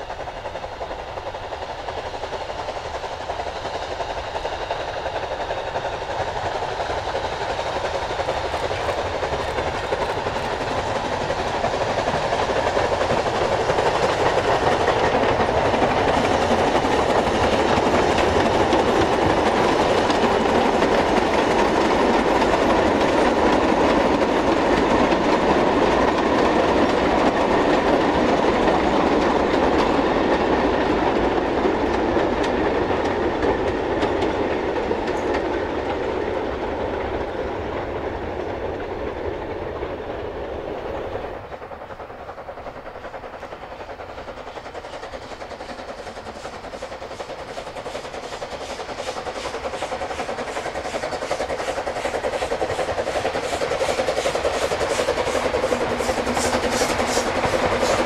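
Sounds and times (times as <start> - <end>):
train rattling past: 0.0 - 58.0.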